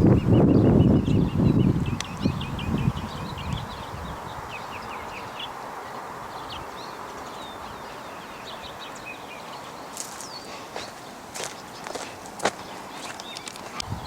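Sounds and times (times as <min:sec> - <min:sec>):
small birds chirping: 0:00.0 - 0:14.0
steady background hiss: 0:02.0 - 0:13.9.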